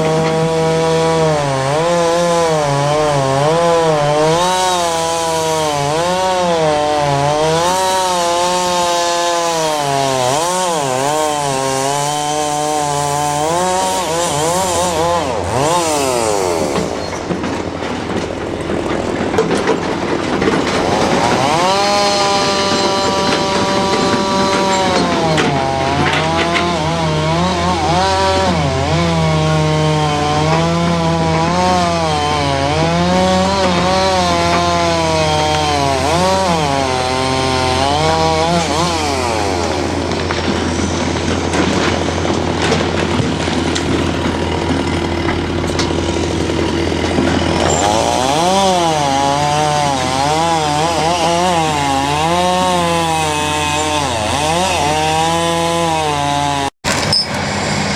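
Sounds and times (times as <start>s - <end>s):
bulldozer diesel engine under load: 0.0s - 57.9s.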